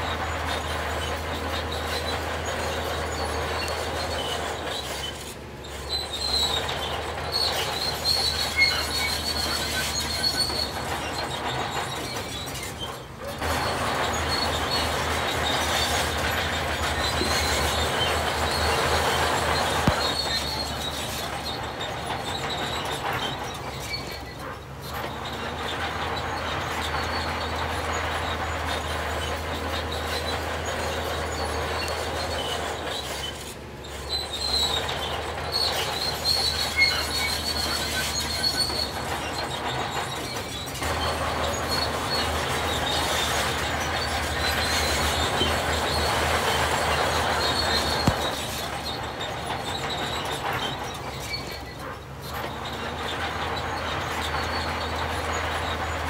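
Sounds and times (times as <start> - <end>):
heavy machinery engine hum: 0.0 - 56.0
metallic squealing: 0.0 - 56.0.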